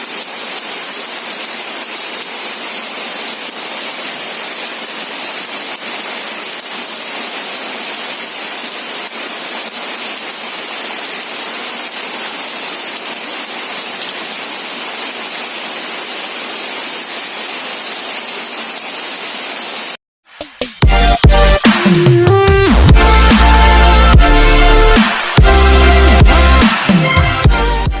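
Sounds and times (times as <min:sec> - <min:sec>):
steady rain falling: 0:00.0 - 0:20.0, 0:22.9 - 0:27.2.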